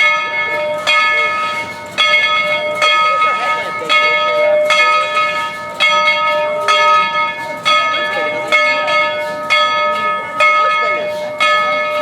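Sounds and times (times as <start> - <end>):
steam locomotive bell ringing: 0.0 - 12.0.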